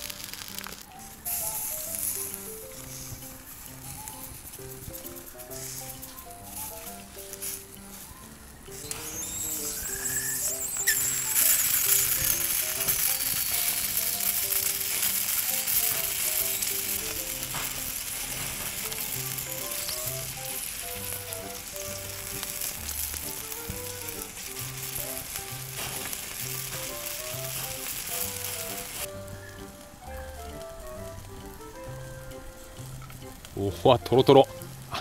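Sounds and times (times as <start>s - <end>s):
light melodic background music: 0.0s - 35.0s
sausages sizzling on grill: 0.0s - 35.0s.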